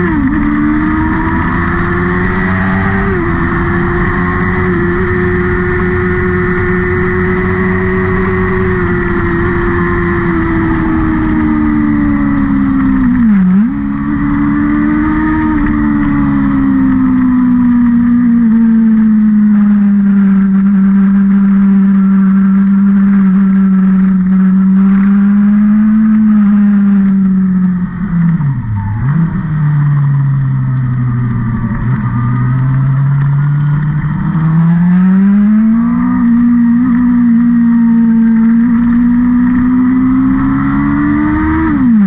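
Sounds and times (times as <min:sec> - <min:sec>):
engine revving at high revs: 0:00.0 - 0:27.1, 0:32.6 - 0:42.0.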